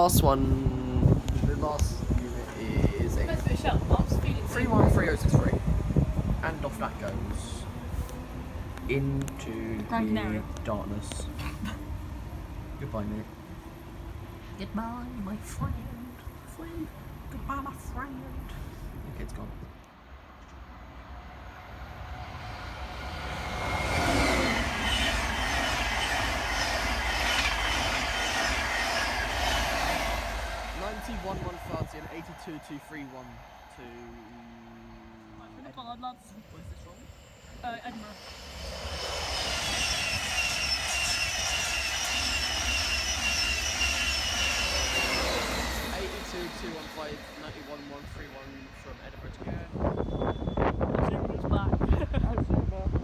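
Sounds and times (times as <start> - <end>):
train passing at speed: 0.0 - 53.0.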